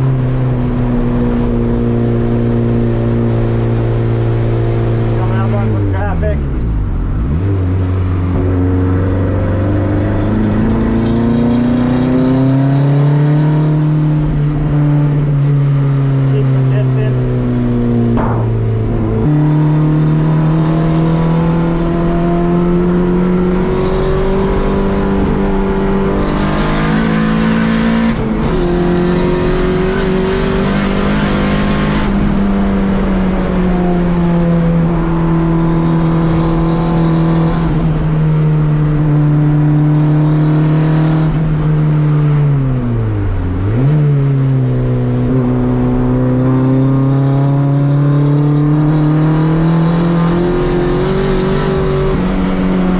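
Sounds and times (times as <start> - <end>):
race car engine running hard: 0.0 - 52.9.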